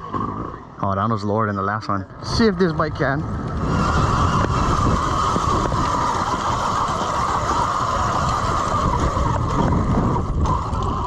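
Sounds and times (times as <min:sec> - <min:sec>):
constant high hum: 0:00.0 - 0:11.0
wind buffeting microphone: 0:02.1 - 0:11.0.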